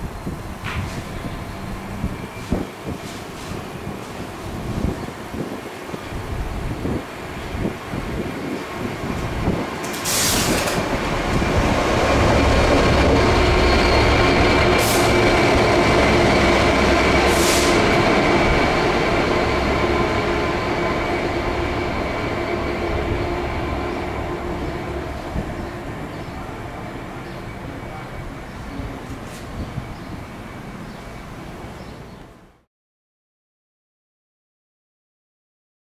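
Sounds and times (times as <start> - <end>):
diesel locomotive passing: 0.0 - 32.6.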